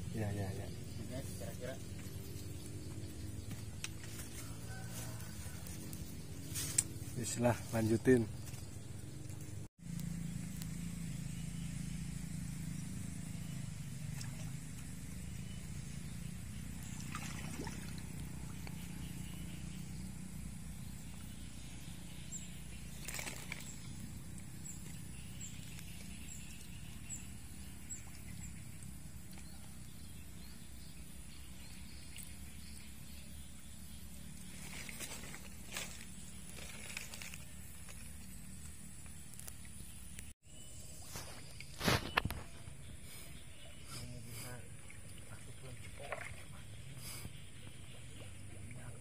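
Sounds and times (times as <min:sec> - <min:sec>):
low outdoor rumble: 0:00.0 - 0:40.3
soft splashes of pond water: 0:09.2 - 0:49.0.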